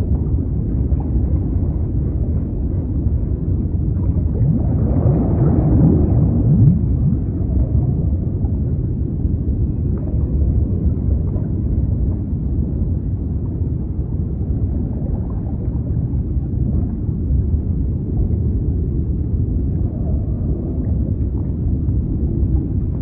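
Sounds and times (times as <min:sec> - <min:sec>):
low rumbling sea noise: 0:00.0 - 0:23.0.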